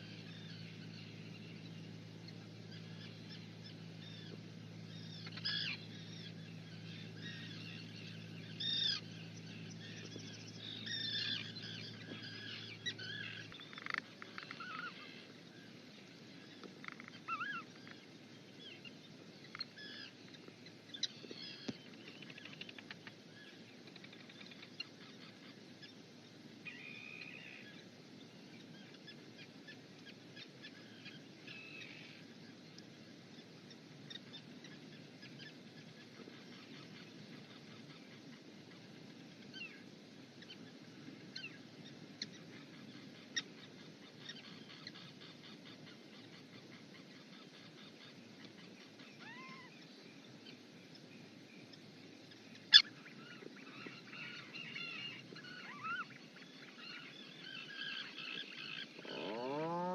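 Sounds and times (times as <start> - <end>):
birds chirping: 0.0 - 59.9
low steady hum: 0.0 - 59.9.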